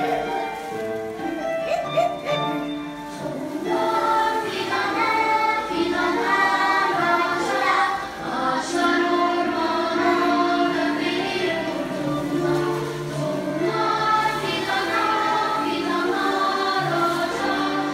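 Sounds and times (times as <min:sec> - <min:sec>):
group singing children's song: 0:02.9 - 0:17.9.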